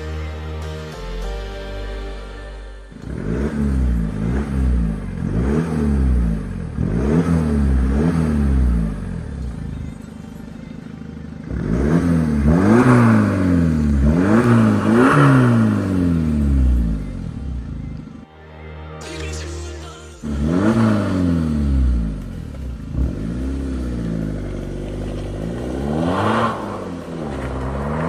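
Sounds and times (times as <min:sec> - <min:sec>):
car engine revving: 0:02.5 - 0:18.2, 0:20.2 - 0:28.0.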